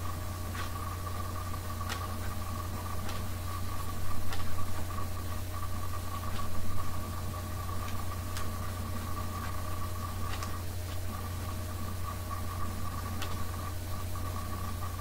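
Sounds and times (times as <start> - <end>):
low hum with high whine: 0.0 - 15.0.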